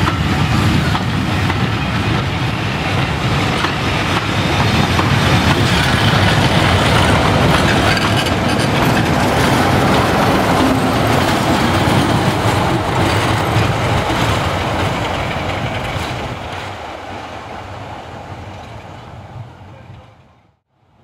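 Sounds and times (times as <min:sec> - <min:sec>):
train passing on track: 0:00.0 - 0:21.0.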